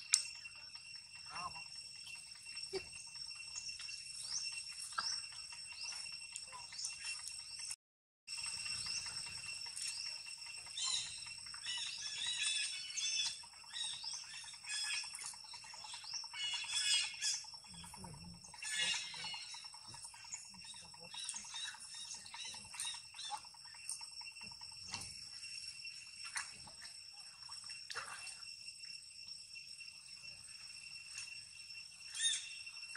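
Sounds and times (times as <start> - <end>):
high insect drone: 0.0 - 32.9.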